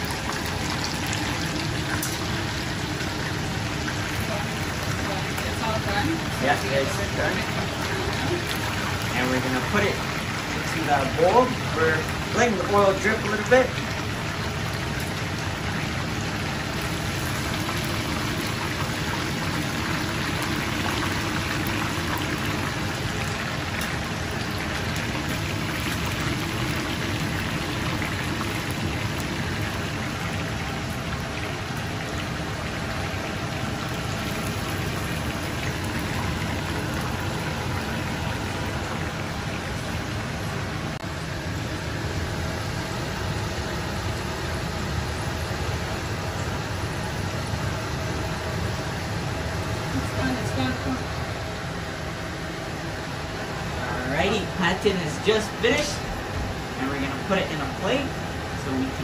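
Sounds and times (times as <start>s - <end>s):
oil sizzling deep-frying: 0.0s - 59.0s.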